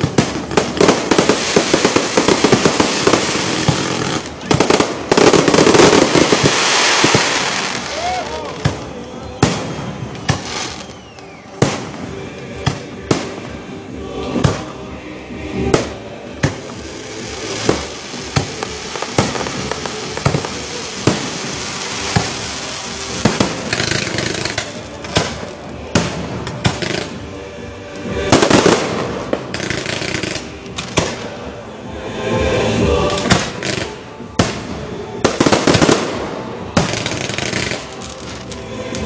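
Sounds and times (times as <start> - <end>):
firework crackling: 0.0 - 14.8, 15.6 - 31.5, 32.8 - 39.0
music: 0.0 - 39.0.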